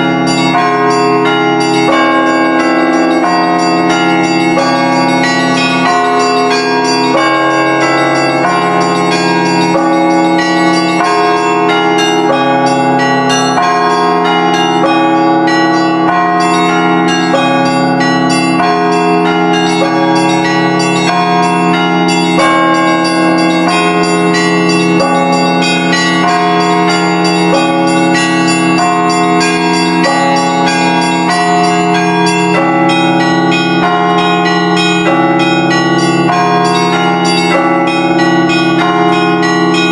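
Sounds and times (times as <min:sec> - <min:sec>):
hum of large bells: 0:00.0 - 0:39.9
small church bells struck rapidly: 0:00.0 - 0:39.9.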